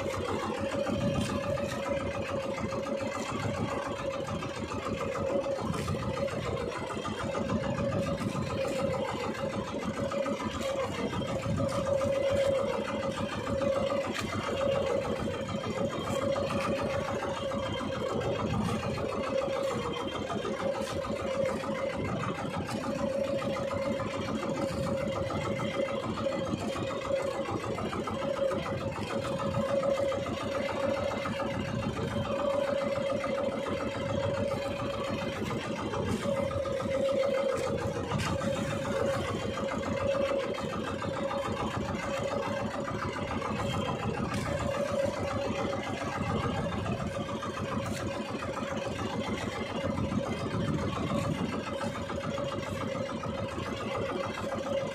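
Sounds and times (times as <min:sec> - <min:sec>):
boat engine idling: 0:00.0 - 0:54.9.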